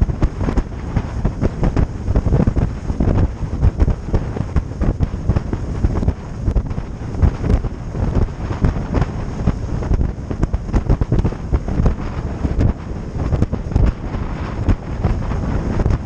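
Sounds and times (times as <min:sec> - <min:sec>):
boat motor: 0:00.0 - 0:16.0
water: 0:00.0 - 0:16.0
wind buffeting microphone: 0:00.0 - 0:16.0.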